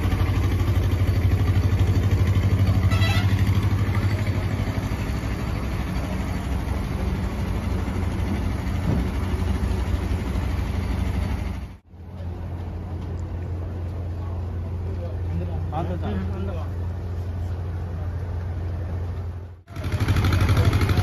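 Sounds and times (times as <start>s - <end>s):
low engine hum: 0.0s - 19.6s.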